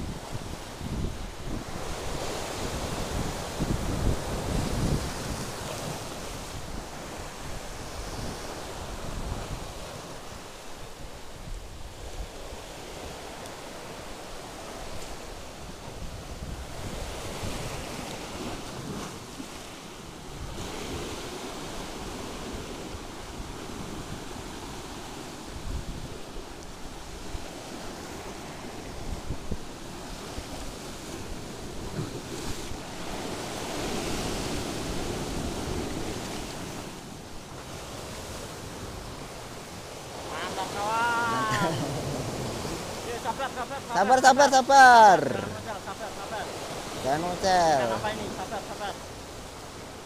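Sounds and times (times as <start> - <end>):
wind buffeting microphone: 0.0 - 40.3, 41.1 - 48.4
waves washing over rocks: 0.0 - 50.0.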